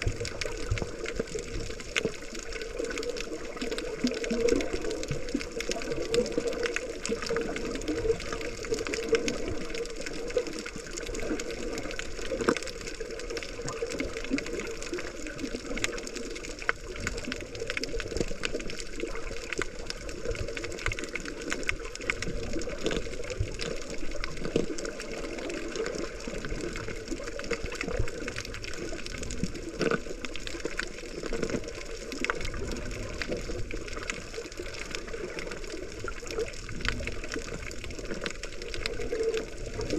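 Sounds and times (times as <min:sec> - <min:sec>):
small clicks and crackles: 0:00.0 - 0:39.9.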